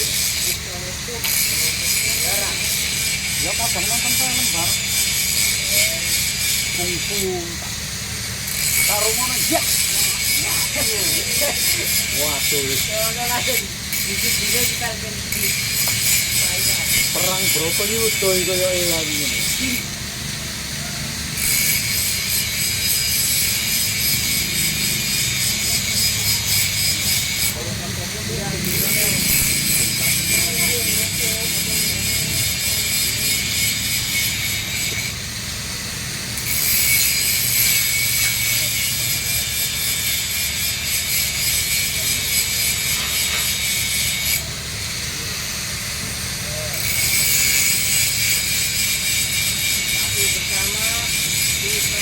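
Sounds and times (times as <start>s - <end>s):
welding arc crackling: 0.0s - 52.0s.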